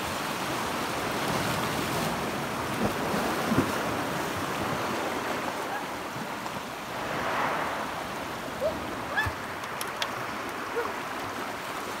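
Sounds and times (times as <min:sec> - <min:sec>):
waves washing over rocks: 0:00.0 - 0:12.0.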